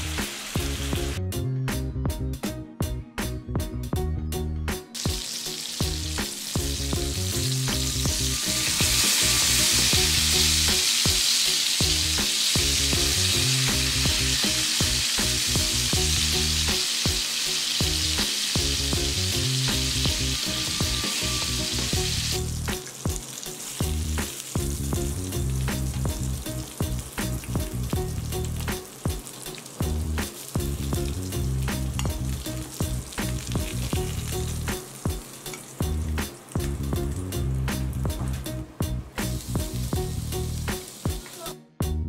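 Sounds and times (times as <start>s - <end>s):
chicken sizzling in a frying pan: 0.0s - 1.2s, 5.0s - 38.4s, 39.1s - 41.5s.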